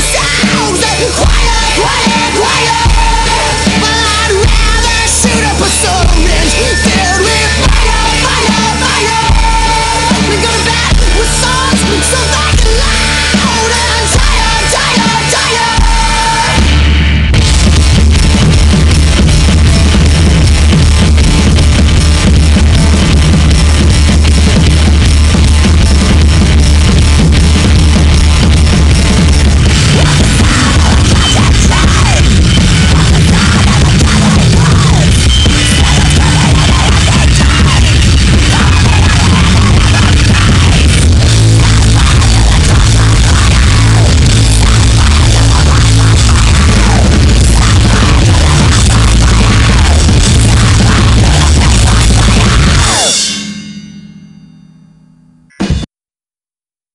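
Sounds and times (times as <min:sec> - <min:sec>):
electric guitars: 0:00.0 - 0:53.3
drum kit: 0:00.0 - 0:54.3, 0:55.5 - 0:55.9.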